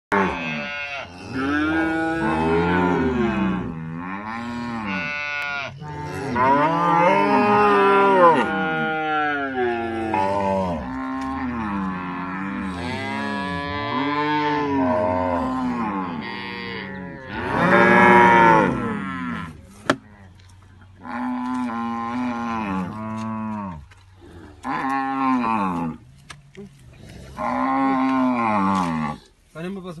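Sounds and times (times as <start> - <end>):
cattle mooing: 0.1 - 20.4, 21.0 - 26.0, 27.1 - 29.3.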